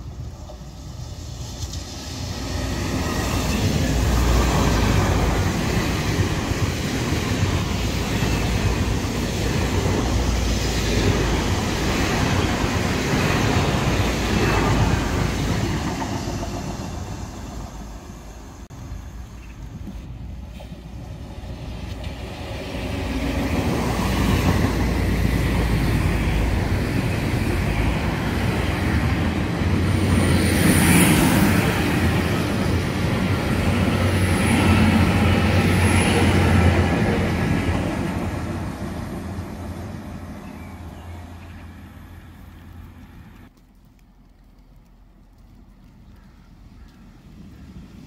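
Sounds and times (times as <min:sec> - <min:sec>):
train rumbling past: 0:00.0 - 0:43.6.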